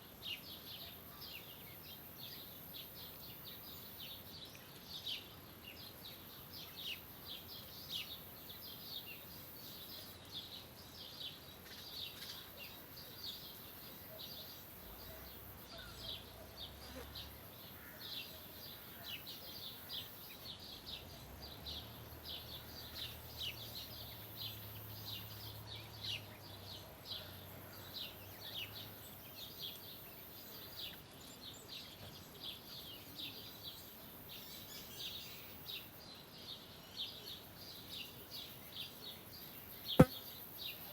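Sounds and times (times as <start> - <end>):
small birds chirping: 0.2 - 40.9.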